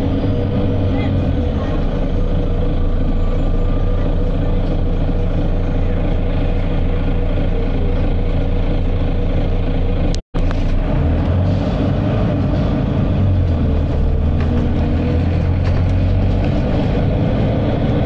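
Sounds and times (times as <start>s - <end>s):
diesel bus engine rumbling: 0.0s - 18.0s.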